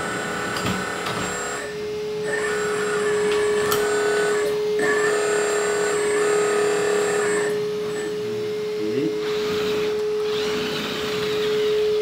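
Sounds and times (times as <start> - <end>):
hydraulic pump motor whine: 0.0 - 12.0.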